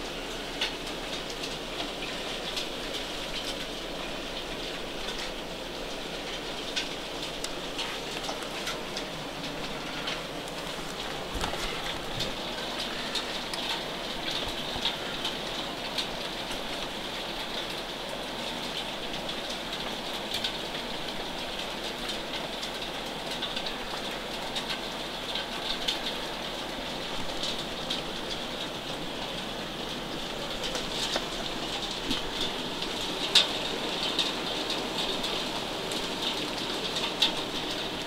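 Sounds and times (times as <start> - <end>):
heavy rain with hail: 0.0 - 38.0.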